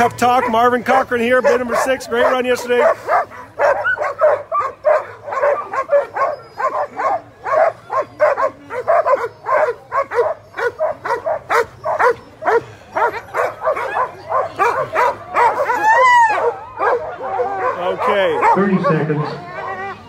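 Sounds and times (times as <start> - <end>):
dogs barking and yipping: 0.0 - 20.0.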